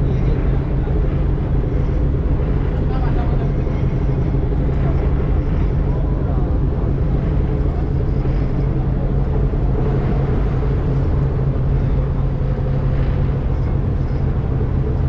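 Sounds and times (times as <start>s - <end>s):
boat engine droning: 0.0s - 15.0s
water noise: 0.0s - 15.0s
wind noise: 0.0s - 15.0s.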